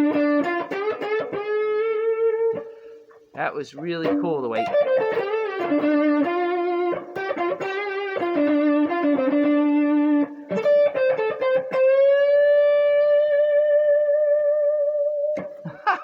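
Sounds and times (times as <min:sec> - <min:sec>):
electric guitar blues lick: 0:00.0 - 0:16.0.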